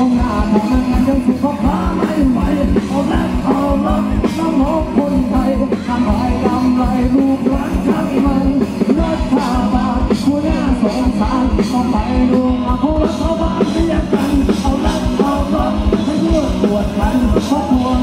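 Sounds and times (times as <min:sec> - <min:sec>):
bass guitar: 0:00.0 - 0:18.0
electric guitars: 0:00.0 - 0:18.0
person singing: 0:00.0 - 0:18.0.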